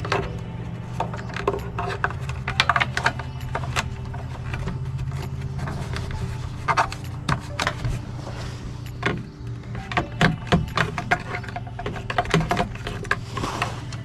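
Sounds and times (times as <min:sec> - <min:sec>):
clicks and rattles of handling parts: 0:00.0 - 0:14.0
steady low hum: 0:00.0 - 0:14.0.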